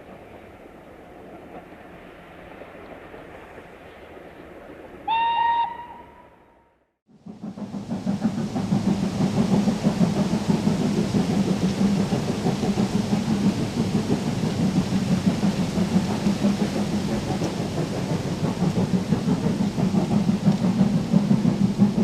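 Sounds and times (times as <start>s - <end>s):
steam locomotive roaring: 0.0s - 22.0s.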